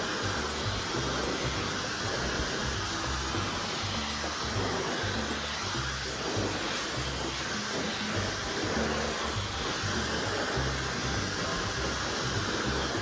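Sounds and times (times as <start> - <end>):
background music with bass line: 0.0 - 13.0
hair dryer blowing: 0.0 - 13.0.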